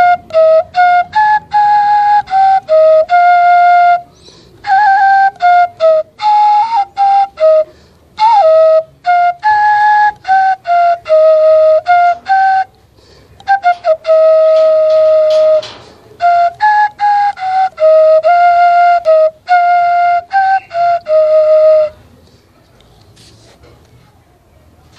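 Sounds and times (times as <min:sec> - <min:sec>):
bamboo flute melody: 0:00.0 - 0:22.2.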